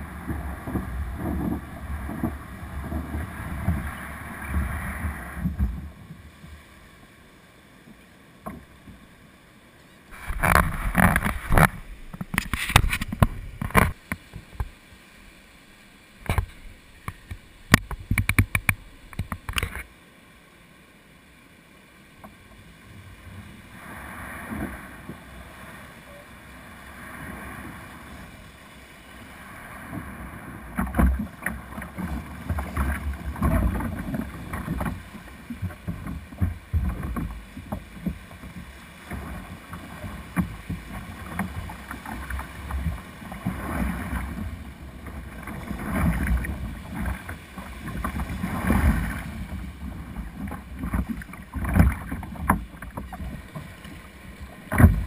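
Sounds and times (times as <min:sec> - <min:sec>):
water slapping kayak hull: 0:00.0 - 0:19.9, 0:21.8 - 0:55.0
surf washing and splashing: 0:00.0 - 0:55.0.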